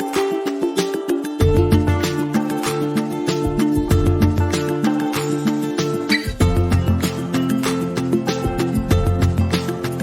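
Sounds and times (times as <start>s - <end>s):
upbeat plucked string music: 0.0s - 10.0s
steady beat: 0.1s - 10.0s.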